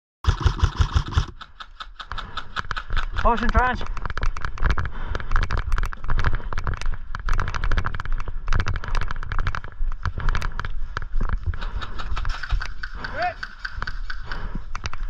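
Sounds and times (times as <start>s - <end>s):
clatter of sharp clicks: 0.2s - 15.0s.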